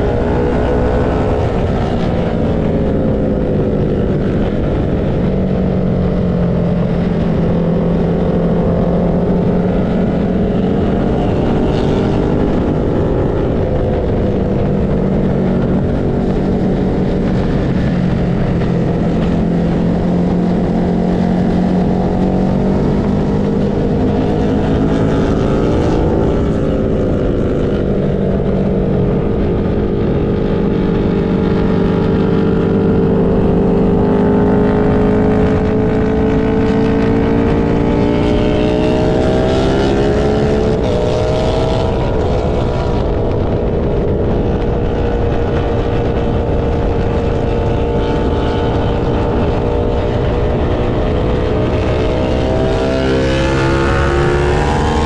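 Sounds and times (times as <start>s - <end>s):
race car engine at speed: 0.0s - 55.0s
wind and road noise: 0.0s - 55.0s.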